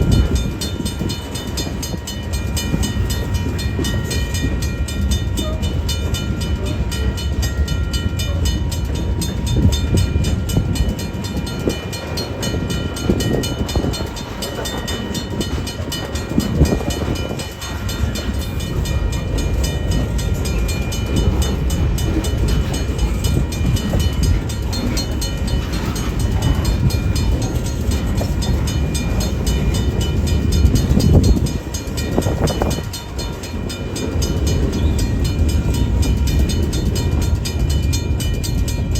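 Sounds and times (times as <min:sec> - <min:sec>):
train rumbling on rails: 0:00.0 - 0:38.9.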